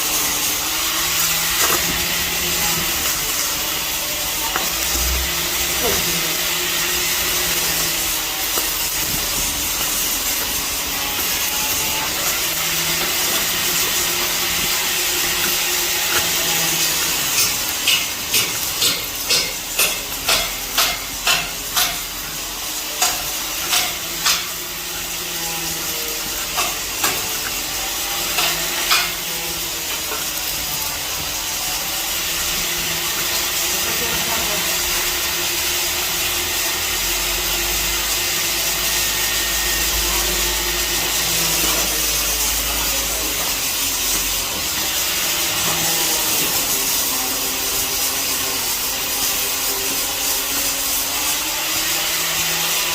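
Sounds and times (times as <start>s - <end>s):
arc welding crackling hiss: 0.0s - 52.9s.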